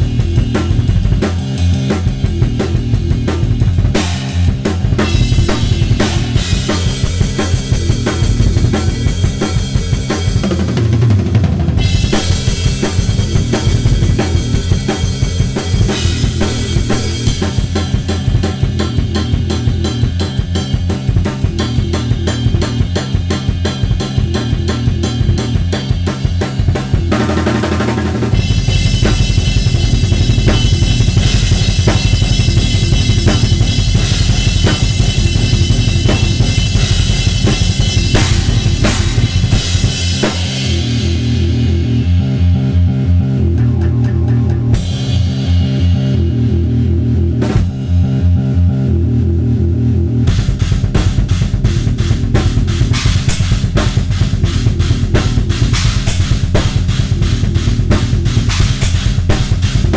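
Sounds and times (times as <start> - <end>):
bass drum: 0.0 - 59.9.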